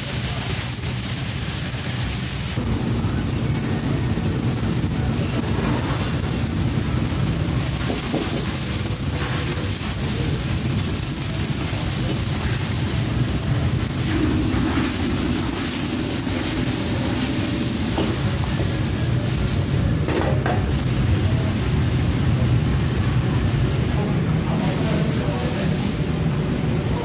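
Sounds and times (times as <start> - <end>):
lobster sizzling in a wok: 0.0 - 20.1, 20.7 - 24.0
gas burner rushing: 0.0 - 26.6.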